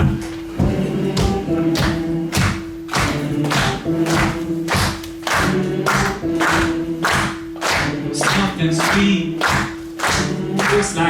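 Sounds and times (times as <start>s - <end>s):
song music with low note: 0.0s - 11.0s
audience clapping on the beat: 1.8s - 11.0s.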